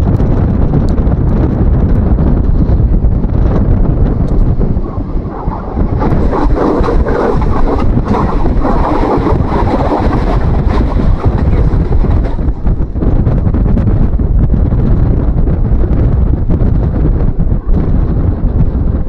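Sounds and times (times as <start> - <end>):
steady low rumble: 0.0 - 19.0
wind buffeting microphone: 0.0 - 19.0.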